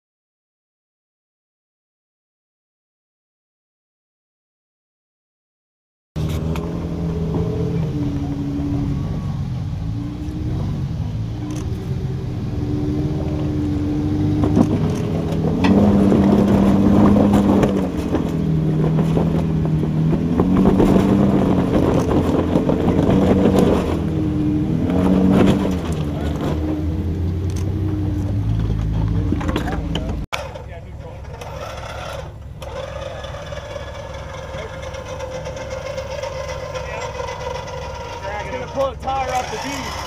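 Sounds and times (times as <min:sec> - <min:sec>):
engine pulling under load: 0:06.2 - 0:40.0.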